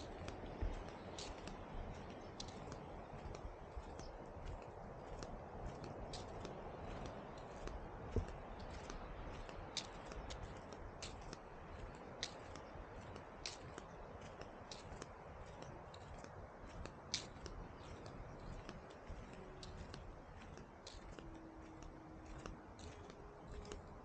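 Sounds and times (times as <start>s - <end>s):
faint clicks: 0.0s - 24.0s
low steady rushing noise: 0.0s - 24.0s.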